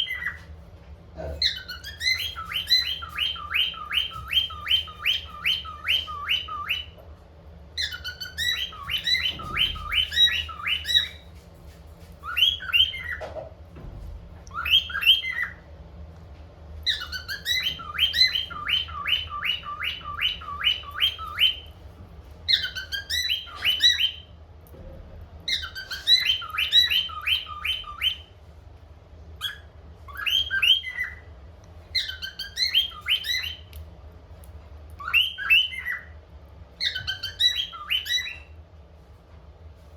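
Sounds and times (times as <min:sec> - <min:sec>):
cockatiels chirping: 0:00.0 - 0:00.5, 0:01.2 - 0:15.7, 0:16.8 - 0:24.4, 0:25.4 - 0:28.4, 0:29.4 - 0:31.3, 0:31.9 - 0:33.8, 0:35.0 - 0:38.6
faint low hum: 0:00.0 - 0:39.9.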